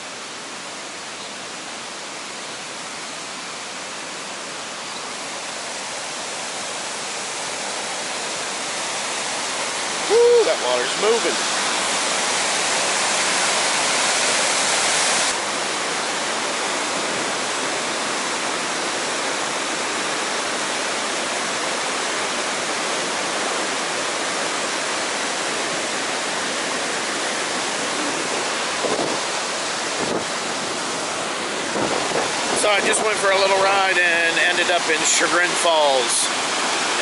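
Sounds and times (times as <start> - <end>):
river water rushing over dam: 0.0 - 37.0.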